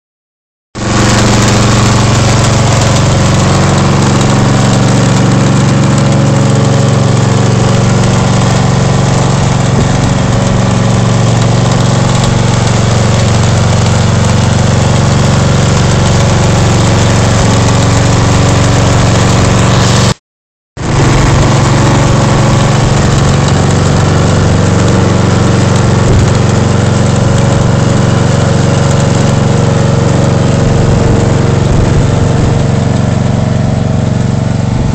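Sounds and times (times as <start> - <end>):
ride-on lawn mower engine: 0.8 - 20.2, 20.8 - 34.9.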